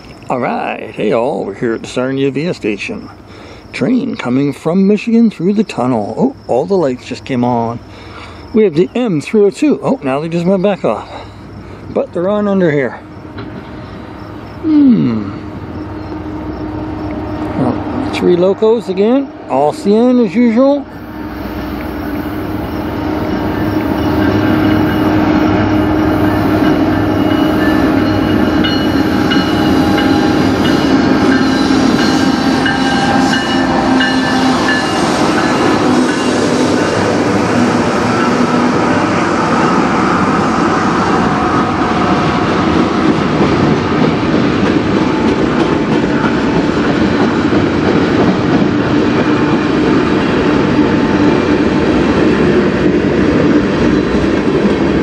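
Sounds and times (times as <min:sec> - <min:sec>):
train wheels rumbling on rails: 0:00.0 - 0:14.6, 0:15.2 - 0:55.0
diesel locomotives droning: 0:00.0 - 0:55.0.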